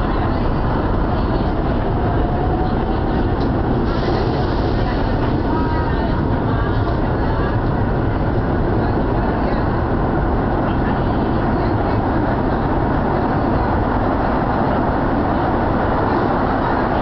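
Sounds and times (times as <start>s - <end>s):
metro train running: 0.0s - 17.0s.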